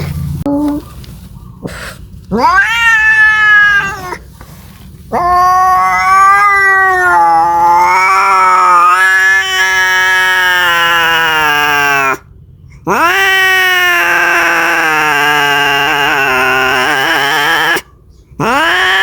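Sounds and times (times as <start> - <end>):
cat yowling: 2.3 - 4.3, 5.1 - 12.2, 12.9 - 19.0.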